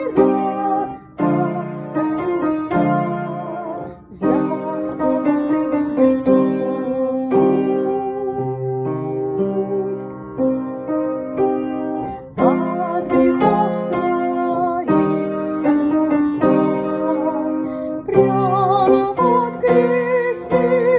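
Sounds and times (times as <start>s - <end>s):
electric piano melody: 0.0s - 20.9s.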